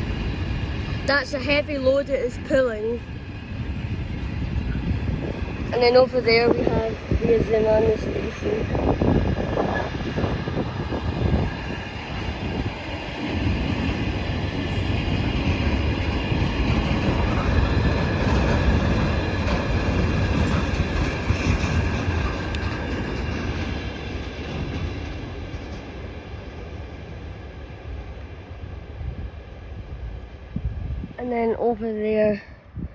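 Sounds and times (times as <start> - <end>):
freight train wagons rumbling past: 0.0 - 32.5.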